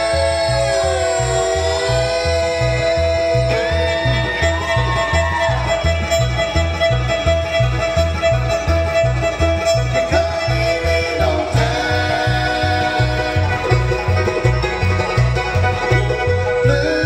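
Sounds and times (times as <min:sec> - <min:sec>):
banjo and guitar picking: 0:00.0 - 0:17.0
bass notes: 0:00.0 - 0:17.0
fiddle melody: 0:00.0 - 0:17.0.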